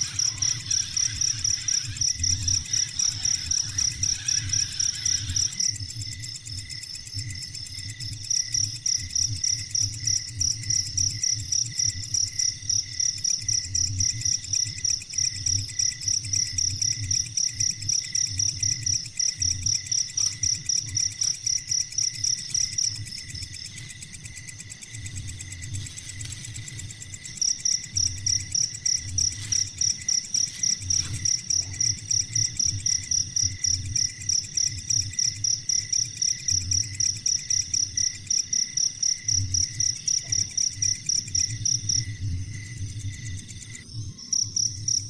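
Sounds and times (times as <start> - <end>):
insect chirping: 0.0 - 45.0.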